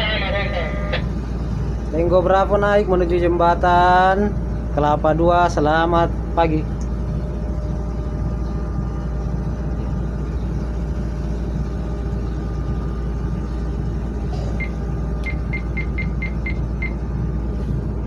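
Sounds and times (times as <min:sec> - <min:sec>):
ship engines rumbling: 0:00.0 - 0:18.0.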